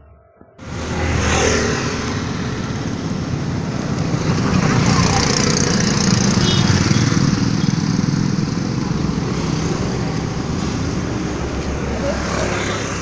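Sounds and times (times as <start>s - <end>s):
passing vehicle engine: 0.6s - 13.0s
road traffic rumble: 0.6s - 13.0s.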